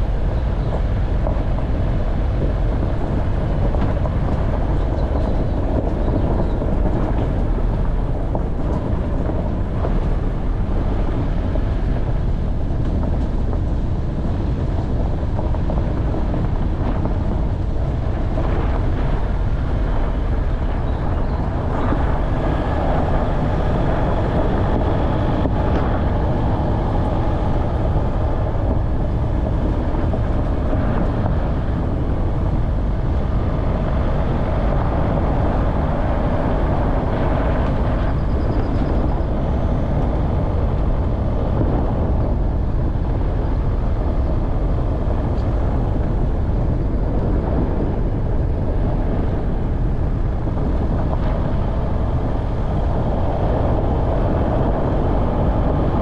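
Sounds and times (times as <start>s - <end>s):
off-road vehicle driving: 0.0s - 56.0s.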